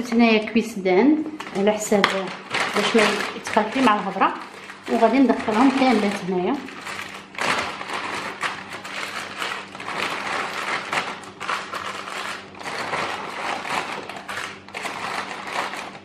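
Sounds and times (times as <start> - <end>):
plastic bags rustling and crinkling: 1.2 - 16.0.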